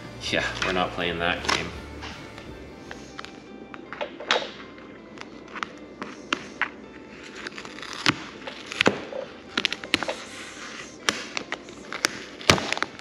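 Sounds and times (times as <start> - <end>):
vinyl sheet crackling: 0.0 - 13.0.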